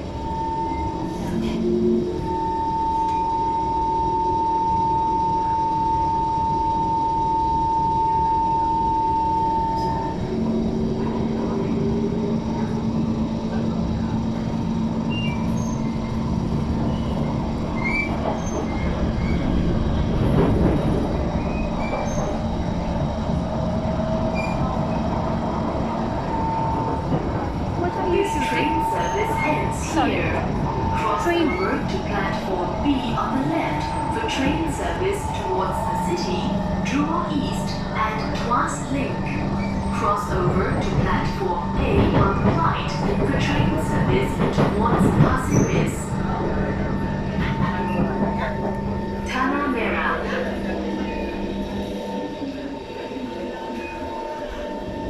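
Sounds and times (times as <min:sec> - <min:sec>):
train wheels rumbling: 0:09.4 - 0:55.0.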